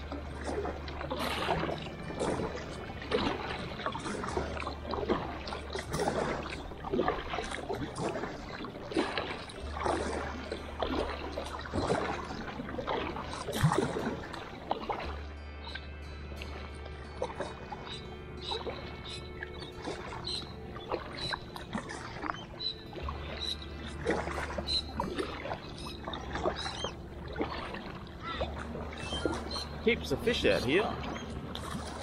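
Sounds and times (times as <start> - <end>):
paddle strokes splashing: 0.0 - 32.0.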